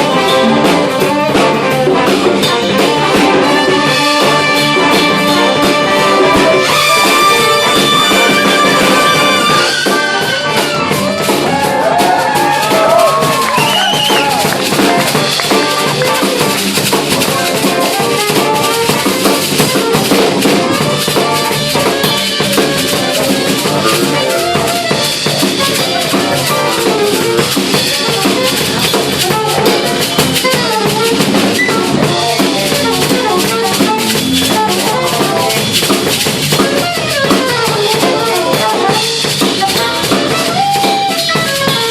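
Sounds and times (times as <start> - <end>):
big band jazz: 0.0 - 41.9
drum kit and cymbals: 0.0 - 41.9
horn melody bending in pitch: 0.0 - 41.9.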